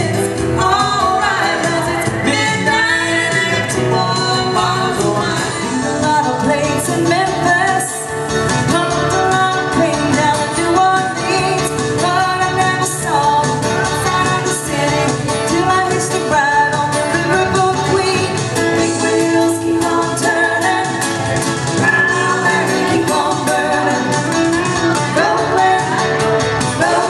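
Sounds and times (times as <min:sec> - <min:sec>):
music with singing voice: 0:00.0 - 0:27.0.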